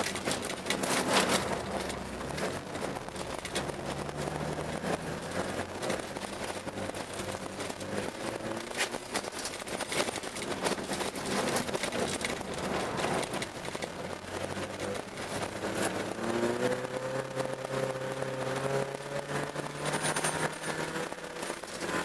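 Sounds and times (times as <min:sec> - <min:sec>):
car engine inside cabin: 0:00.0 - 0:22.0.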